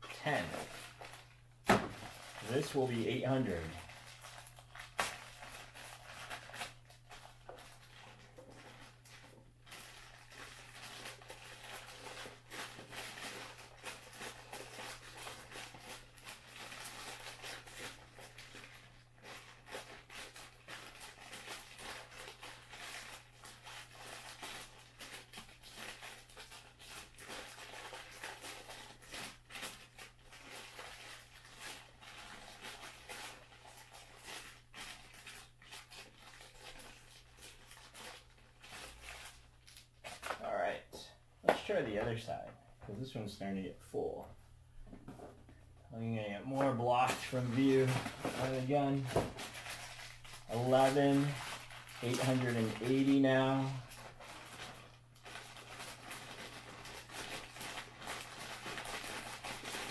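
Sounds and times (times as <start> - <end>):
plastic bag crinkling: 0.0 - 40.5, 45.9 - 59.9.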